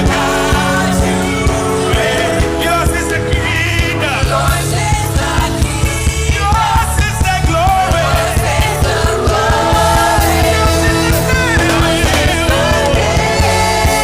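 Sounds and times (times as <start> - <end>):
worship band music: 0.0 - 14.0.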